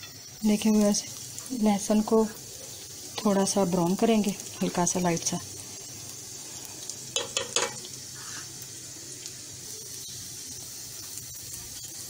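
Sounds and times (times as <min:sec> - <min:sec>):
garlic sizzling in pan: 0:00.0 - 0:12.0.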